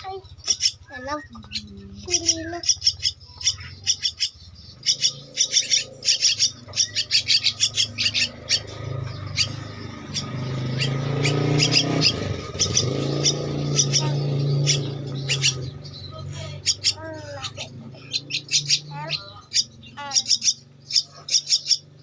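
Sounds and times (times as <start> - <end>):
chicks begging calls: 0.0 - 22.0.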